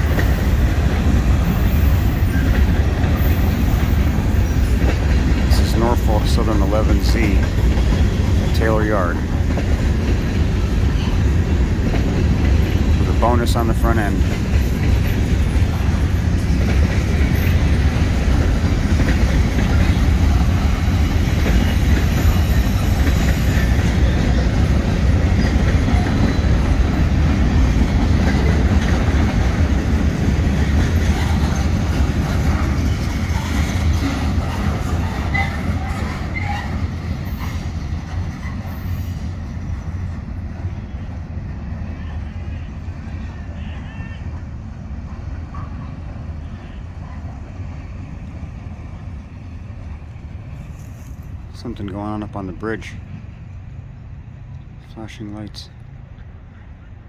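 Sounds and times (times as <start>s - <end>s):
freight train wheels rolling on rails: 0.0s - 57.0s.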